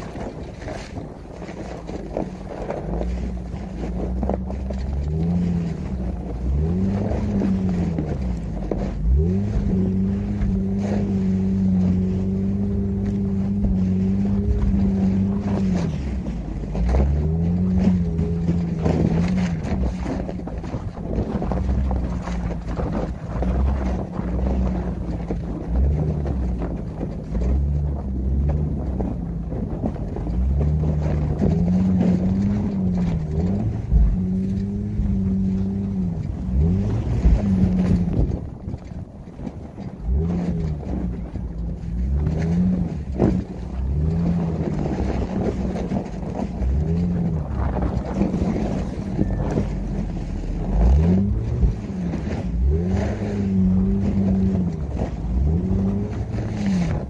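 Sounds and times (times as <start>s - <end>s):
car engine revving: 0.0s - 57.0s
wind noise on microphone: 0.0s - 57.0s.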